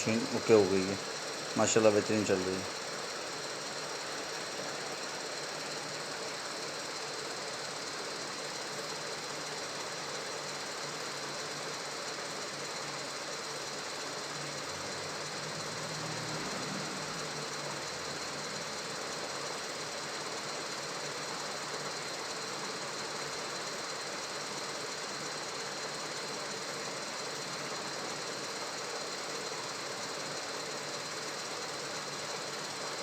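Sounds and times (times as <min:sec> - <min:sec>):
treadmill running with whine: 0:00.0 - 0:33.0.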